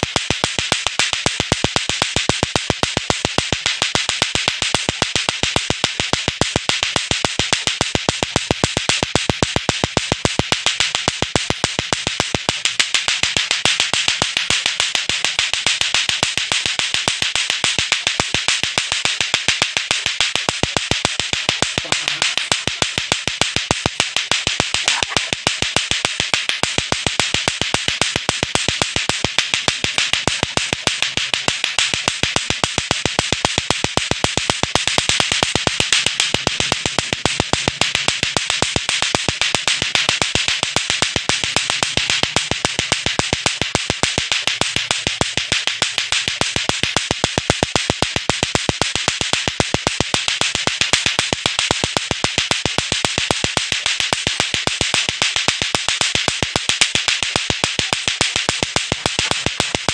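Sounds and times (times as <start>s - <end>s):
clacker toy balls clacking: 0.0s - 59.9s.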